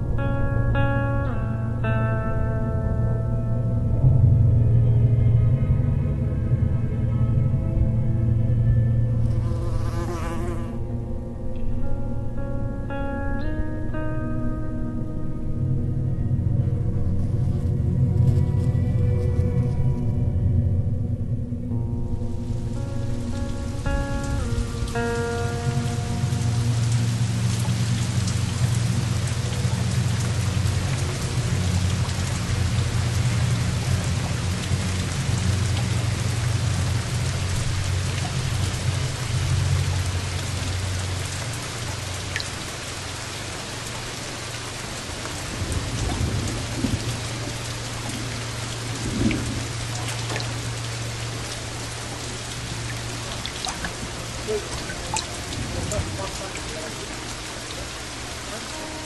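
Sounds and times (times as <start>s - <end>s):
deep low rumble: 0.0s - 9.8s, 10.7s - 59.0s.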